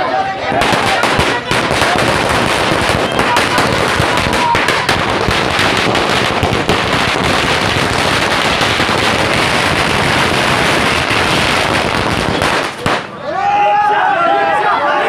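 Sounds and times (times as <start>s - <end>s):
firecrackers crackling: 0.5s - 13.2s.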